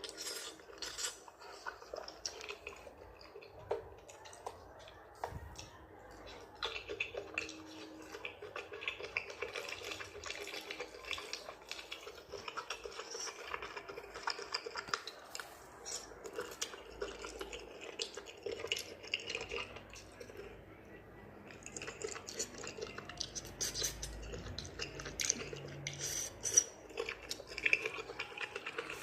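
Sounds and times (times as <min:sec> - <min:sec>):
wet chewing and licking: 0:00.0 - 0:20.6, 0:21.4 - 0:29.0.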